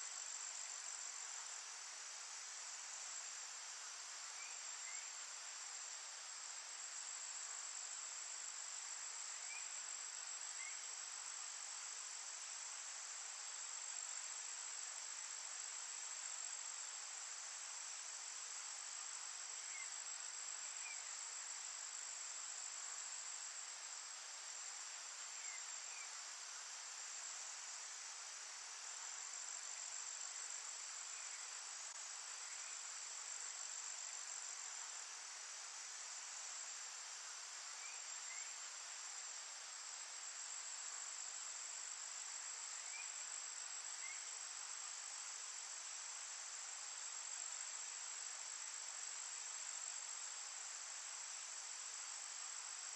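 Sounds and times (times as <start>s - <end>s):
crickets droning: 0.0s - 52.9s.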